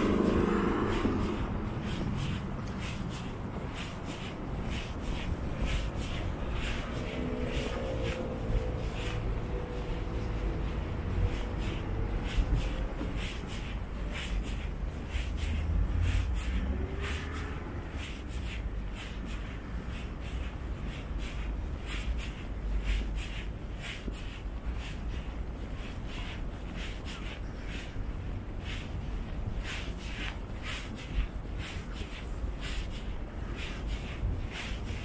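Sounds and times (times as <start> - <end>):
footsteps on asphalt: 0.0 - 35.0
steady low rumble: 0.0 - 35.0.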